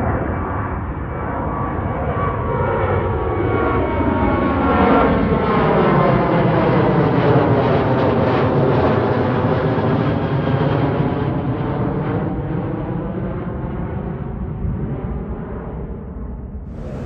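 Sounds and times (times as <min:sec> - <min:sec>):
jet engine rush with whine: 0:00.0 - 0:17.0.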